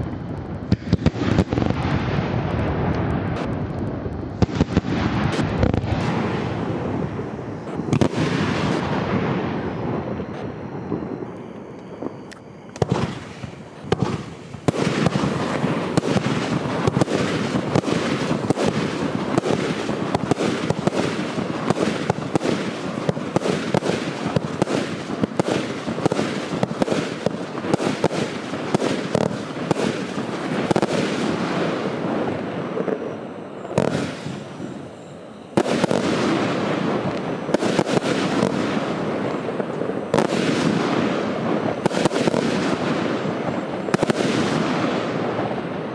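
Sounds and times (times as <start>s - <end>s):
fireworks cake firing: 0.0s - 45.9s.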